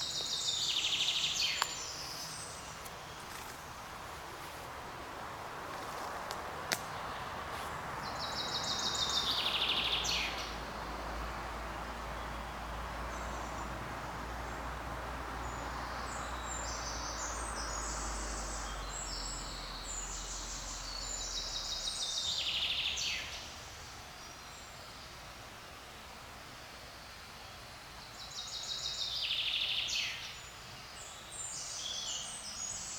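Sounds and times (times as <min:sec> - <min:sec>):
forest background hiss: 0:00.0 - 0:32.9
songbird singing: 0:00.0 - 0:32.9.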